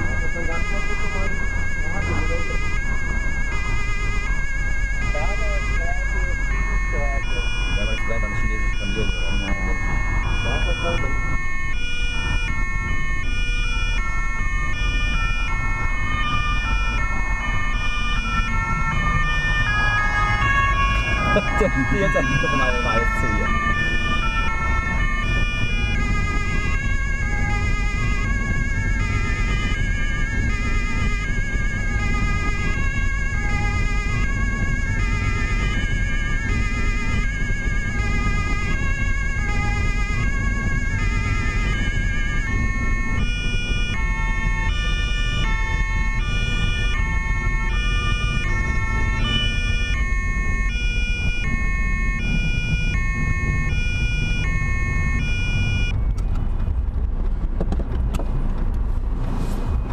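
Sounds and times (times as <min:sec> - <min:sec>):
two-tone police siren: 0:00.0 - 0:56.9
engine and tyre noise: 0:00.0 - 0:59.9.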